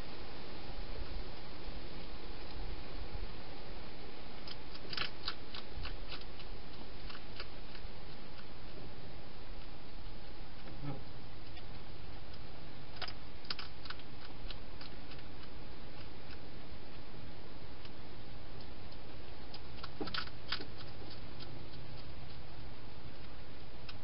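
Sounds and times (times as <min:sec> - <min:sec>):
background hiss: 0:00.0 - 0:24.0
hedgehog chewing food: 0:04.1 - 0:24.0.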